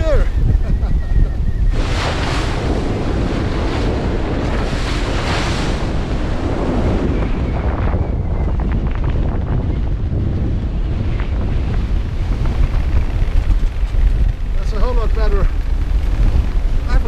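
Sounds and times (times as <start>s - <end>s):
waves breaking along a hull: 0.0s - 17.0s
wind buffeting microphone: 0.0s - 17.0s.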